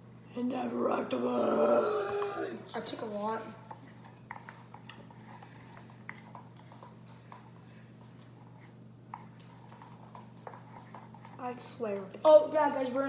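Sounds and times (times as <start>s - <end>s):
steady low hum: 0.0s - 13.0s
slime being stirred in a bowl: 2.0s - 12.9s.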